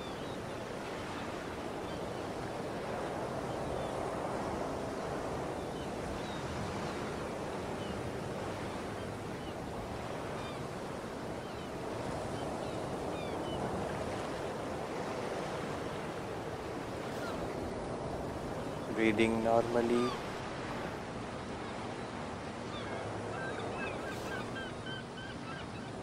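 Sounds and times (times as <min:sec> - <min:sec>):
ocean waves on a shore: 0:00.0 - 0:26.0.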